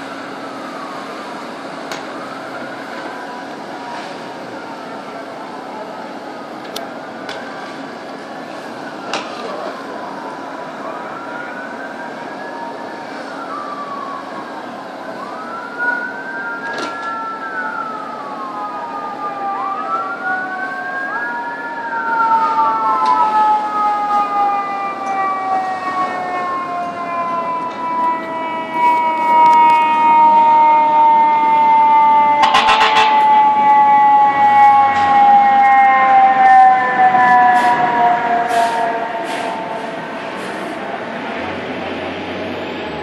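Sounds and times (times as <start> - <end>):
siren long falling tone: 0.0 - 43.0
wailing fire engine siren: 0.0 - 43.0.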